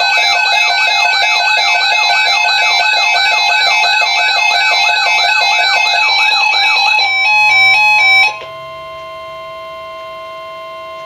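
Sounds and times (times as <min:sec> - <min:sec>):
steady long alarm tone: 0:00.0 - 0:11.0
warbling radio alarm: 0:00.0 - 0:11.0.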